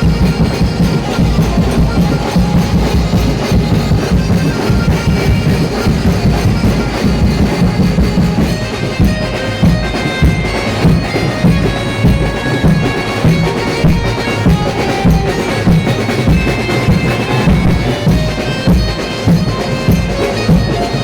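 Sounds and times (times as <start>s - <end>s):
drums beating: 0.0s - 21.0s
wind instrument playing held notes: 0.0s - 21.0s.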